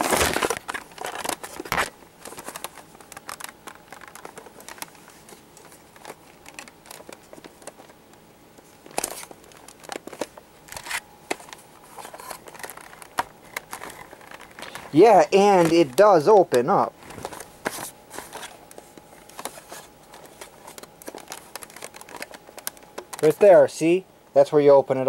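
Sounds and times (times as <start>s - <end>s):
plastic parts clicking and knocking: 0.0s - 5.0s, 5.6s - 8.2s, 8.8s - 14.9s, 15.6s - 23.4s
crinkling rustle: 0.0s - 23.6s.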